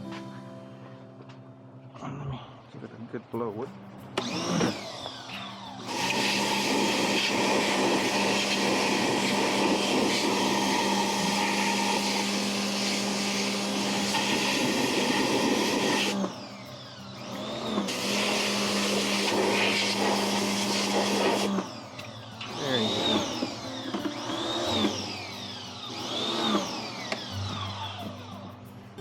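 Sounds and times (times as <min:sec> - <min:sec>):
electric blower running: 0:04.2 - 0:28.4.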